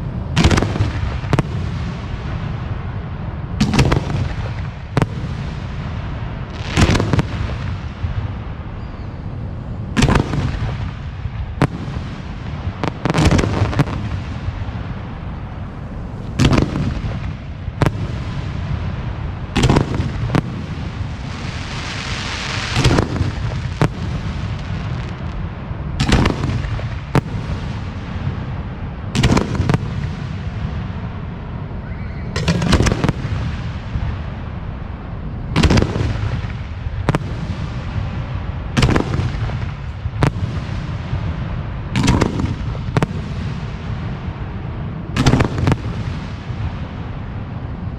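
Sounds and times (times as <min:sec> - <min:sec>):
firework shells booming: 0:00.3 - 0:02.8, 0:03.6 - 0:08.8, 0:09.9 - 0:31.0, 0:32.3 - 0:34.4, 0:35.4 - 0:47.3.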